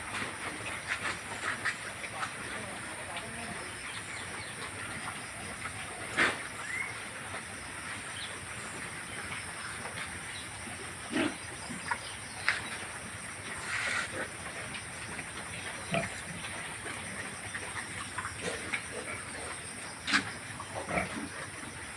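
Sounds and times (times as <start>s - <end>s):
pigs grunting: 0.0s - 21.9s.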